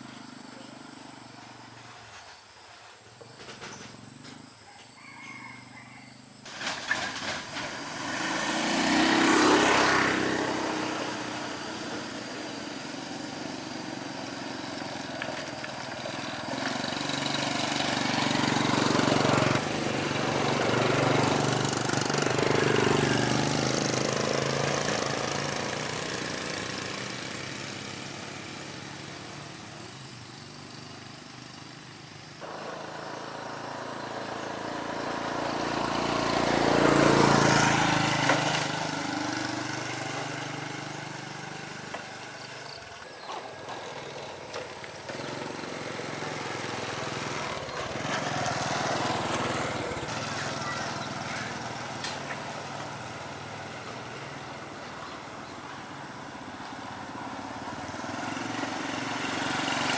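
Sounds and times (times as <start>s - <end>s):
vehicle engine running: 6.6s - 59.9s.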